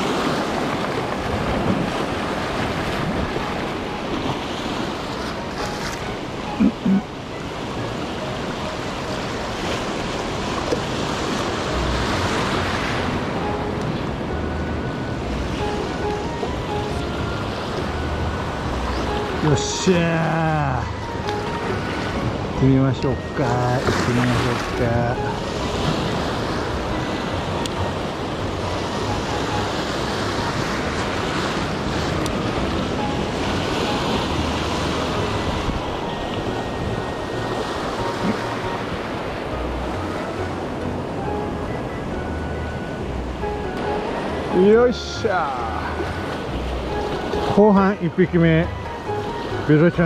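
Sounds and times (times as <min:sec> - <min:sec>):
surf washing over rocks: 0:00.0 - 0:41.7, 0:43.4 - 0:50.0.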